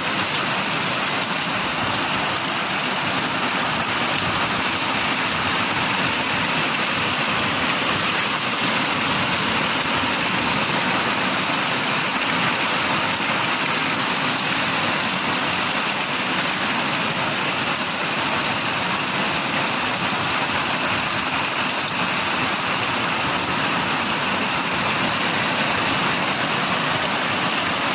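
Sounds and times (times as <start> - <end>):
rain falling steadily: 0.0 - 27.9.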